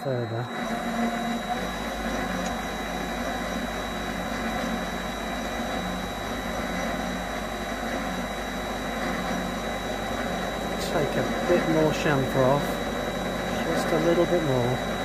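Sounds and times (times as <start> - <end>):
lathe motor humming with whine: 0.0 - 15.0.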